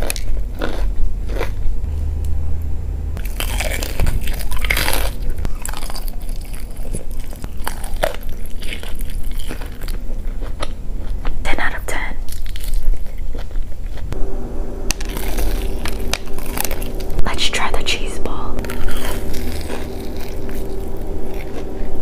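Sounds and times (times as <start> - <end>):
chewing crunchy food: 0.0 - 1.8, 3.2 - 14.2, 15.0 - 17.2, 18.6 - 22.0.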